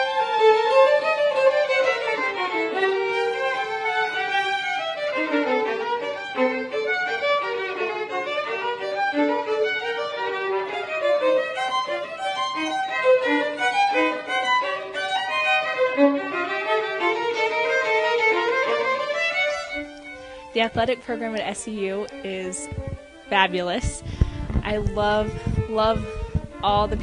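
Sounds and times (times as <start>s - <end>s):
violin duet melody: 0.0s - 27.0s.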